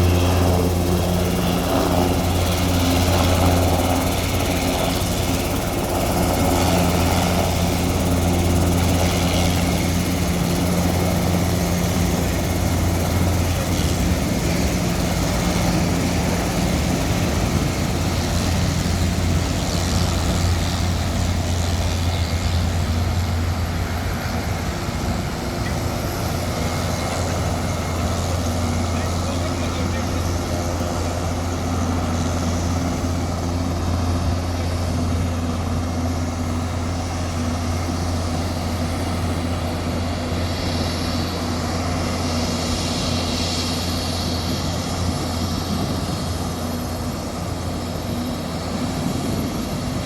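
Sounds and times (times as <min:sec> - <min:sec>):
helicopter rotor and turbine hum: 0:00.0 - 0:50.0.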